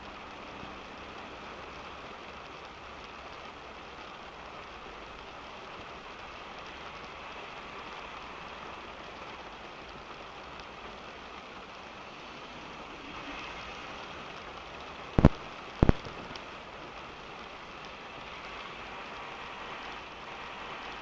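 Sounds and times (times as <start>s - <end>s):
rain falling on a car: 0.0s - 21.0s.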